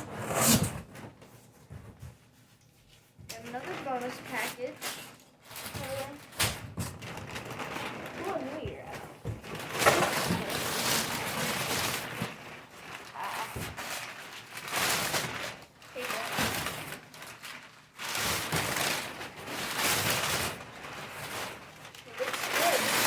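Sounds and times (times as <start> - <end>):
packaging being torn and rustled: 3.3 - 23.0.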